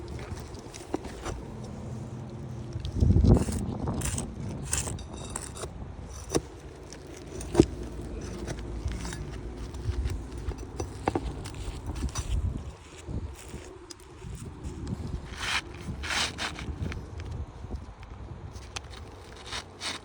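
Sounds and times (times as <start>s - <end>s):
scraping and rustling handling noises: 0.0s - 20.0s.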